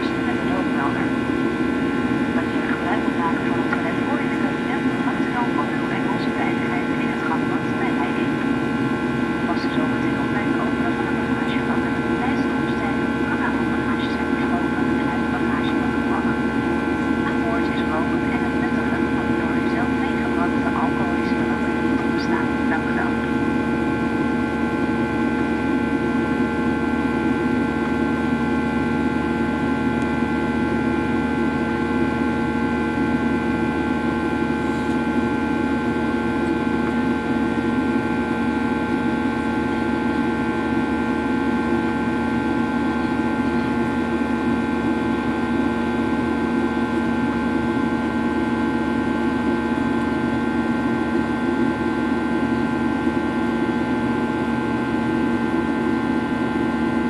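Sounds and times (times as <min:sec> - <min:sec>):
steady whining tones: 0:00.0 - 0:50.7
jet engine drone: 0:00.0 - 0:57.0.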